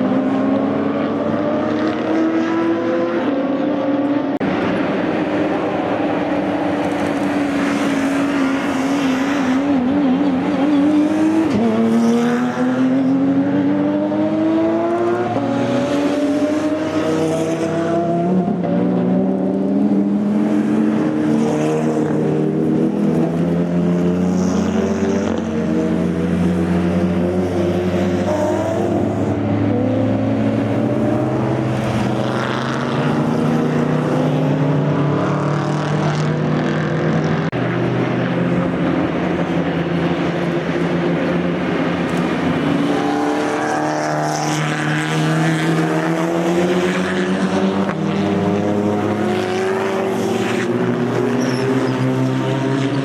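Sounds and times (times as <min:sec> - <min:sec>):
race car engines at full throttle: 0:00.0 - 0:53.0.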